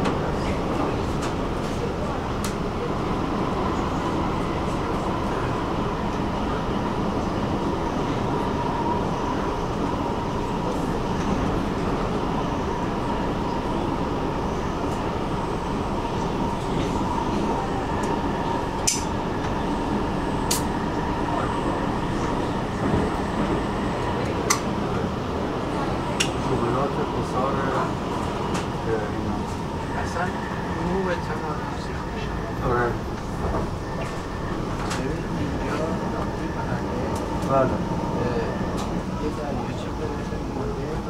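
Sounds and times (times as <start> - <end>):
train rumble from inside: 0.0 - 41.0.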